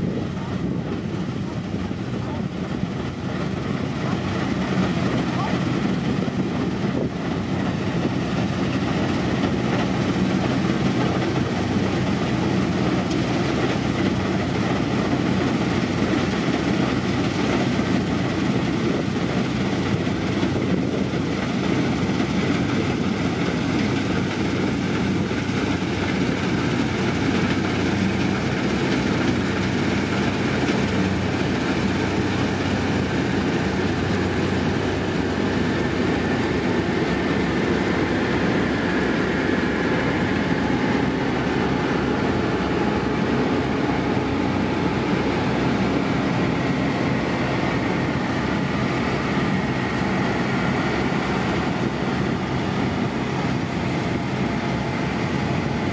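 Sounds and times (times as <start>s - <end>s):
combine harvester running: 0.0s - 55.9s.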